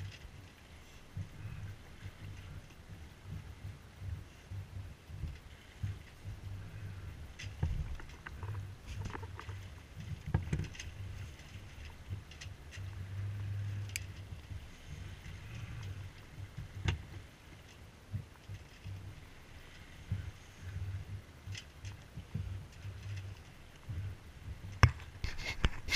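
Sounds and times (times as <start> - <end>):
footsteps and gear on deck: 0.0 - 25.9
water and wind against hull: 0.0 - 25.9.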